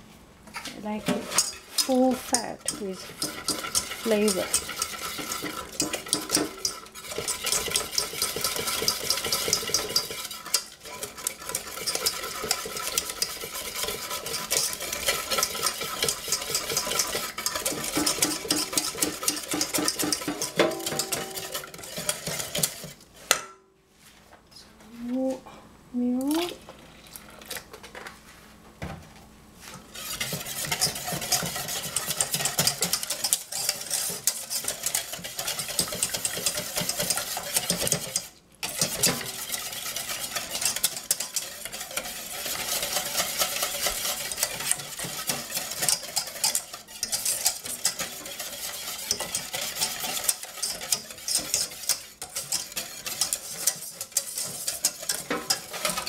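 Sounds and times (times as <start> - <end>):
whisk scraping metal saucepan: 0.6 - 23.4, 29.6 - 56.0.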